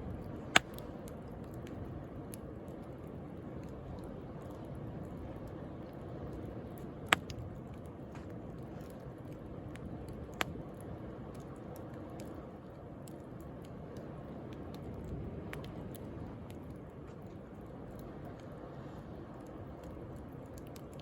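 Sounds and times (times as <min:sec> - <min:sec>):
bonfire crackling: 0:00.0 - 0:21.0.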